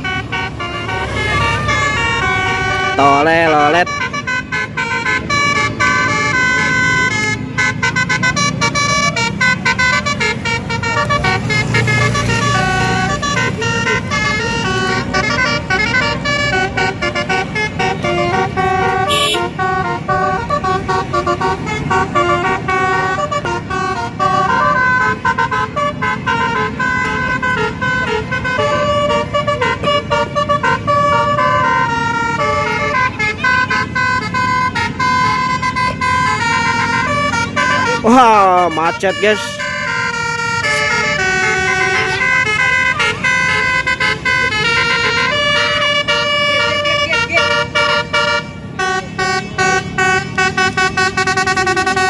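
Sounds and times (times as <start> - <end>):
bus horn playing a melody: 0.0 - 52.0
traffic rumble: 0.0 - 52.0.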